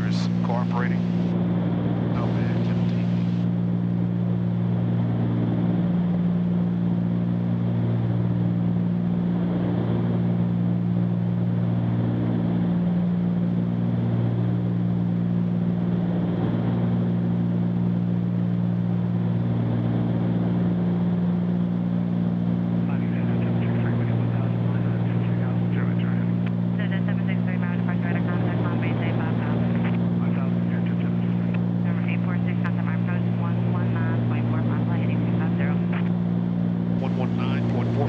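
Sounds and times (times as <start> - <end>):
aircraft cabin engine drone: 0.0 - 38.0.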